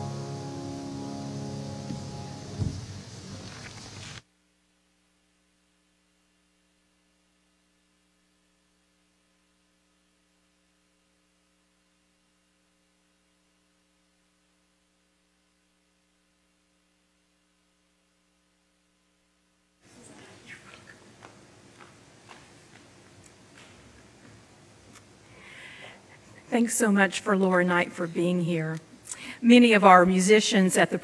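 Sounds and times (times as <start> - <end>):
faint electrical mains hum: 0.0 - 31.0.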